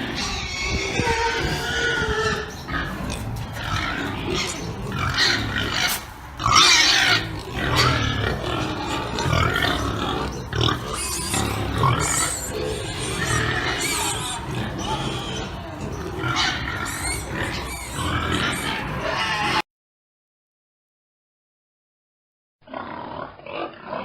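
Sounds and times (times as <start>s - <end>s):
pigs calling and squealing: 0.0s - 19.7s, 22.7s - 24.0s.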